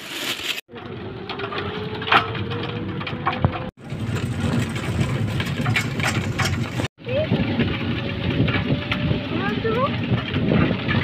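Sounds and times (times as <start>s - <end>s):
vehicle rumbling and rattling: 0.6s - 11.0s.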